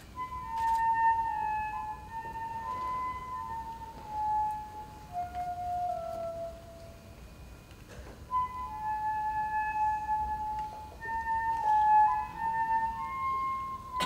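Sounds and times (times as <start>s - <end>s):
woodwind solo melody: 0.1s - 7.0s, 8.3s - 14.0s.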